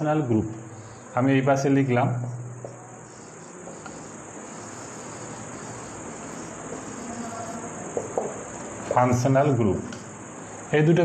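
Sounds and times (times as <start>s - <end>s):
background hiss: 0.0s - 11.0s
high-pitched insect trilling: 0.7s - 1.3s, 2.2s - 10.7s.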